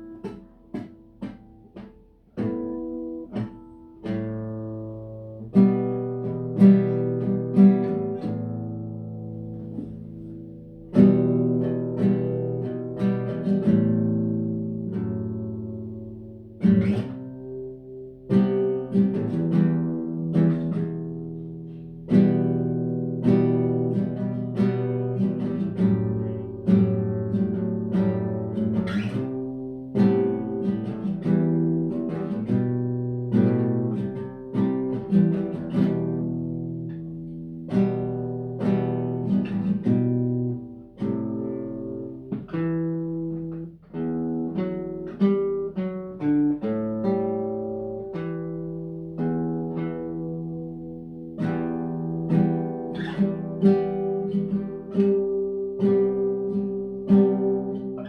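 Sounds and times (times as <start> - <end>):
guitar plucked notes and chords: 0.0 - 58.0.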